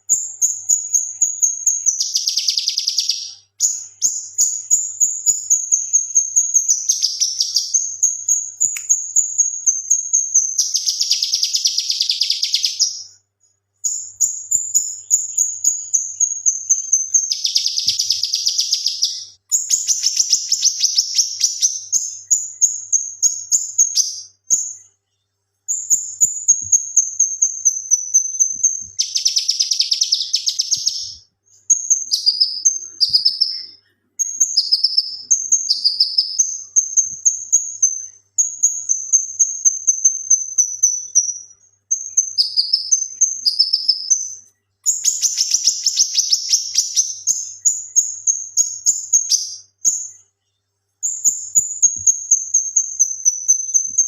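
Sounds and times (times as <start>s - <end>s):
bird singing trills and rattles: 0.0s - 13.2s, 13.8s - 54.0s.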